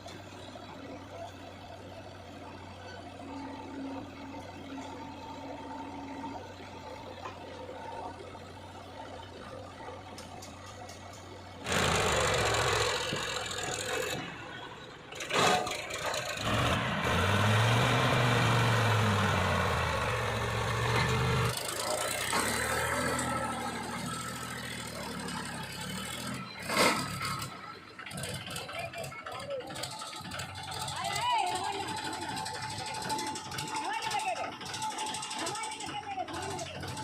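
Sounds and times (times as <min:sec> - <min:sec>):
backhoe diesel engine revving: 0:00.0 - 0:37.0.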